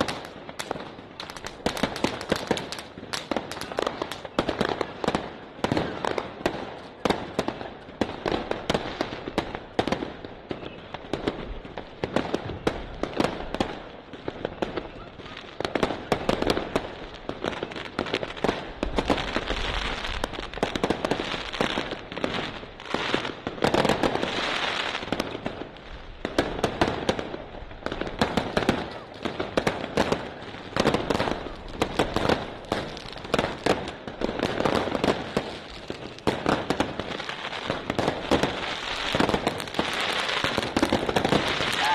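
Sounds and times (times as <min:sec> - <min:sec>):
firework shots crackling: 0:00.0 - 0:41.9.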